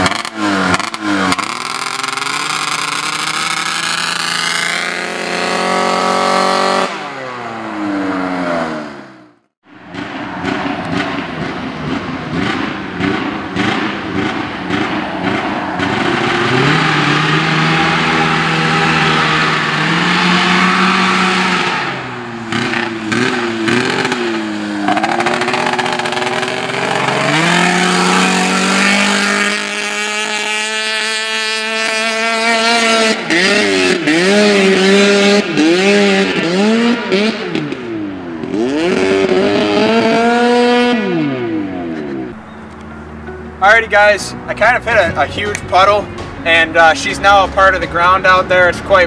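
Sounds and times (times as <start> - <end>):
two-stroke engine revving: 0.0 - 42.4.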